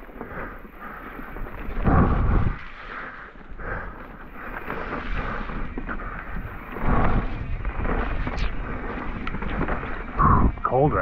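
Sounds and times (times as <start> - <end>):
bike tyres rumbling on trail: 0.0 - 11.0.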